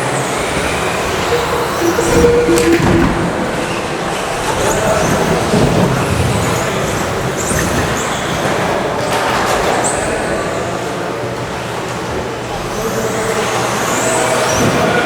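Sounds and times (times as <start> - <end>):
electric motors whining: 0.0 - 15.0
tyres running over carpet: 0.0 - 15.0.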